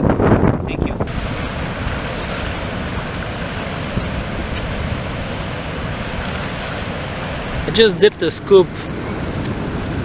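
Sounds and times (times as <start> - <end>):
river rapids rushing over rocks: 1.1 - 10.0.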